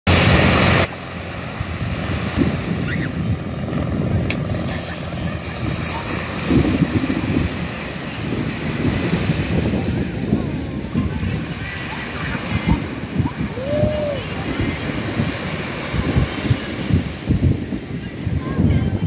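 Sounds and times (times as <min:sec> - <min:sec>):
small waves washing onto shore: 0:00.1 - 0:19.0
wind buffeting microphone: 0:00.1 - 0:19.0.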